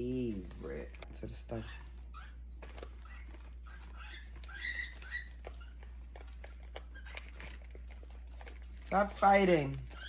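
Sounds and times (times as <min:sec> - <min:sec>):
beaks and feet tapping: 0:00.1 - 0:10.0
small birds chirping: 0:01.2 - 0:10.0.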